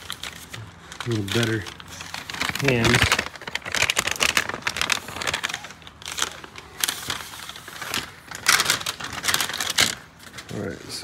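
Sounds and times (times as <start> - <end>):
crackling handling noise: 0.0 - 10.8.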